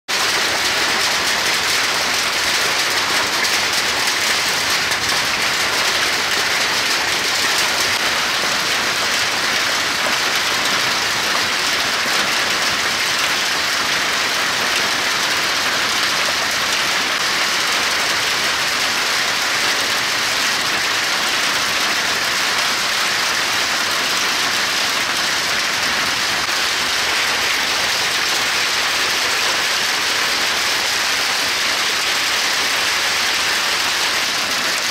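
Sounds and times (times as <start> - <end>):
hail pounding pavement: 0.1 - 34.9.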